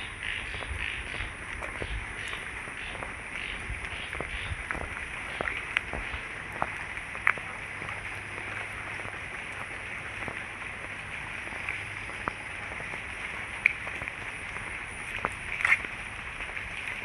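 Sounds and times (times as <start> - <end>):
crickets chirping: 0.0 - 15.6.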